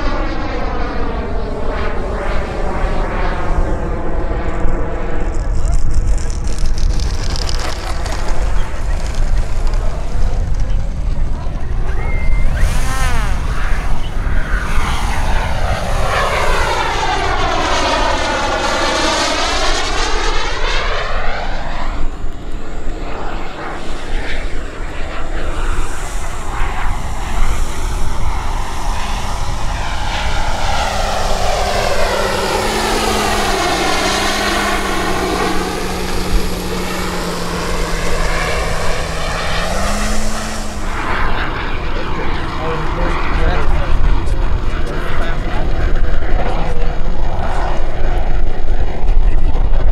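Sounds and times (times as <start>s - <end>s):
model jet turbine passing overhead: 0.0s - 49.9s.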